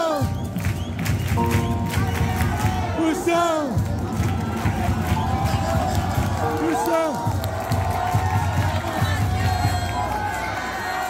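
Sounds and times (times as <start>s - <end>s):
crowd cheering and chanting: 0.0s - 11.0s.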